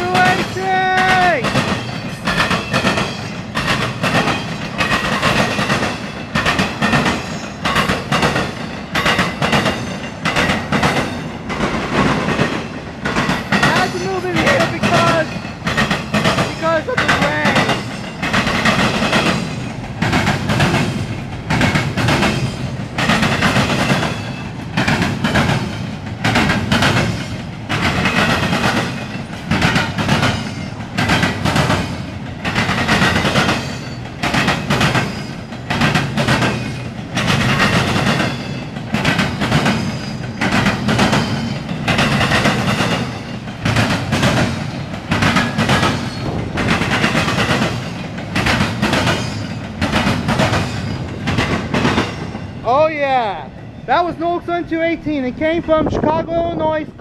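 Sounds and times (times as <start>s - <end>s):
freight train wheels clacking: 0.0s - 56.9s.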